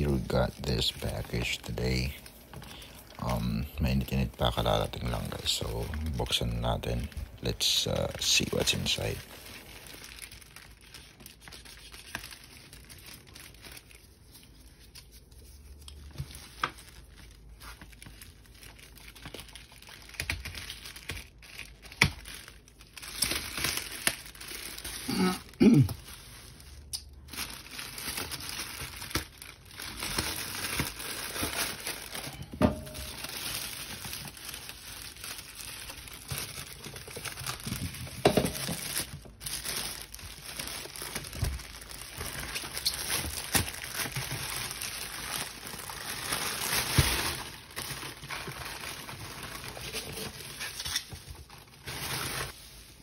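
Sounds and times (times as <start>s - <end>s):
packaging crinkling and tearing: 0.0s - 53.0s.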